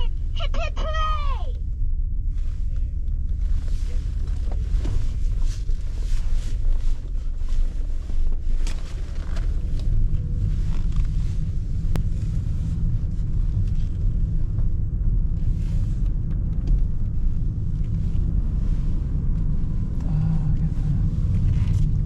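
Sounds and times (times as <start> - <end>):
car driving rumble: 0.0 - 22.0.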